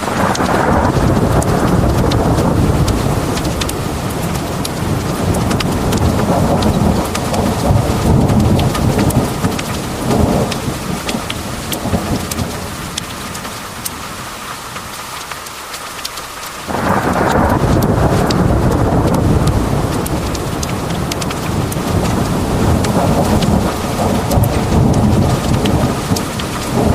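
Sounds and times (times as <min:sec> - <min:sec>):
low rumble of thunder: 0:00.0 - 0:13.4, 0:16.7 - 0:26.9
heavy rain pouring: 0:00.0 - 0:26.9
sharp raindrop ticks: 0:00.0 - 0:26.9.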